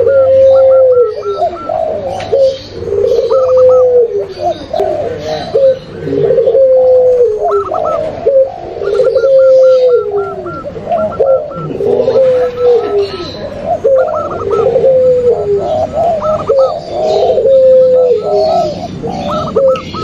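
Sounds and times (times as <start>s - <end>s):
doves cooing: 0.0s - 20.0s.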